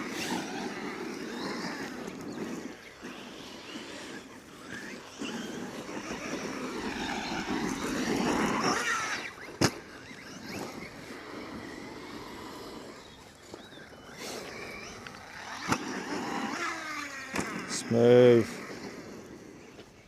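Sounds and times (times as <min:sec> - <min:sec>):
electric motor whining: 0:00.0 - 0:20.0
tyres churning dirt: 0:00.0 - 0:20.0.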